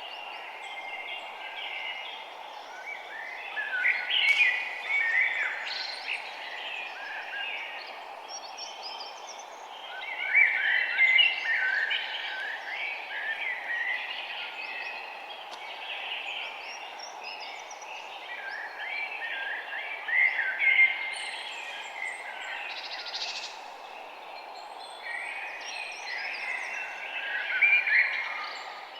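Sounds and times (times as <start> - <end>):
steady background hiss: 0.0 - 28.9.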